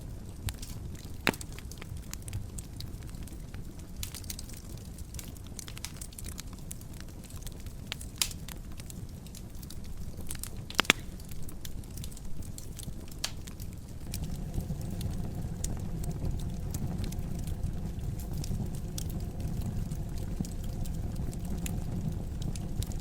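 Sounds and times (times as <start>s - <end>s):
fire crackles and pops: 0.0s - 23.0s
fire low rumble: 0.0s - 23.0s.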